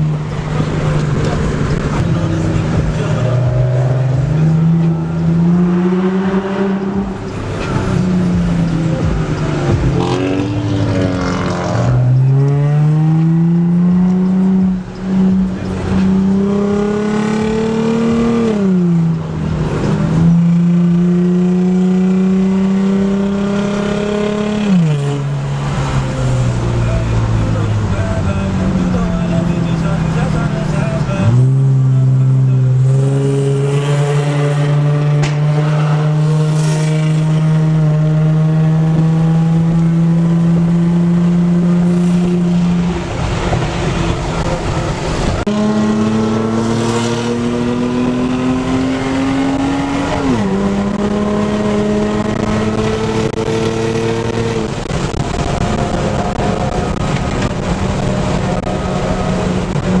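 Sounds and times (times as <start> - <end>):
car engine accelerating: 0.0 - 60.0
road noise: 0.0 - 60.0.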